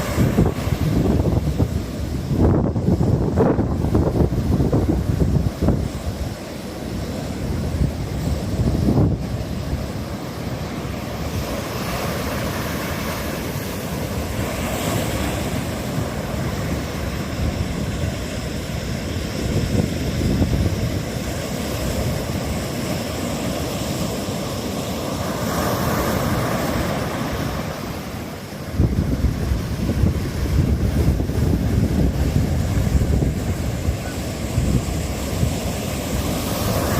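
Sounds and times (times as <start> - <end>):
ocean surf breaking: 0.0 - 36.9
wind rumbling on microphone: 0.0 - 36.9.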